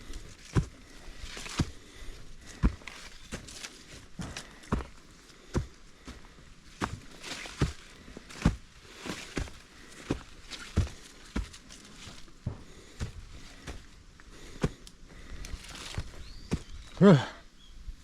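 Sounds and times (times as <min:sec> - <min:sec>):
footsteps on trail: 0:00.0 - 0:17.2.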